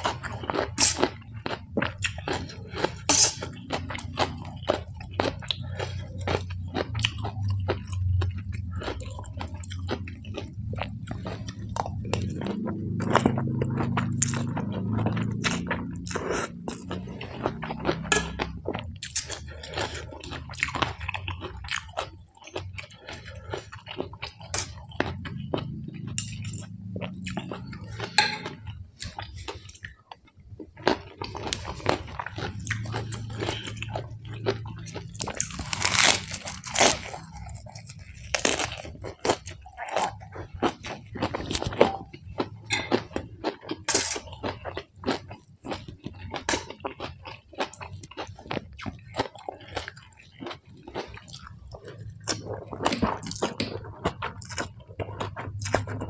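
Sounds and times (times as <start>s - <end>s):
wet chewing and crunching: 0.0s - 56.0s.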